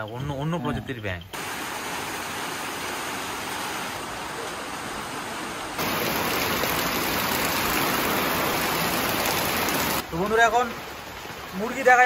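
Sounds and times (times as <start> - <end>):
steady rain falling: 1.3 - 12.0.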